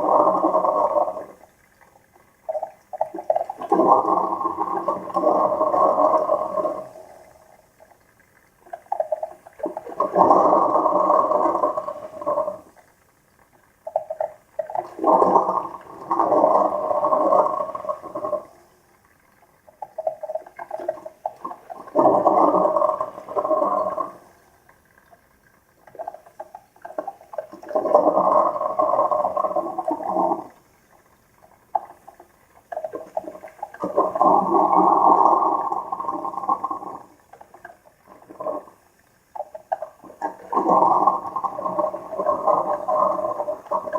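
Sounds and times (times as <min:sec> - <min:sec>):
quiet bubbling: 0:00.0 - 0:43.9.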